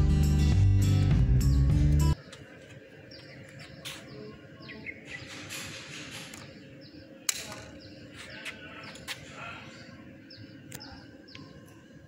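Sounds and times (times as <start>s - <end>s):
small birds chirping: 1.5s - 12.0s.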